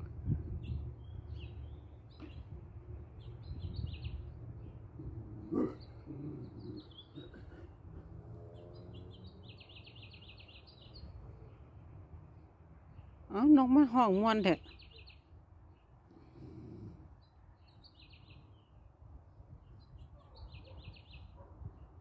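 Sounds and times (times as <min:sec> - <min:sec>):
small birds chirping: 0:00.5 - 0:11.7, 0:12.9 - 0:19.0, 0:19.6 - 0:22.0.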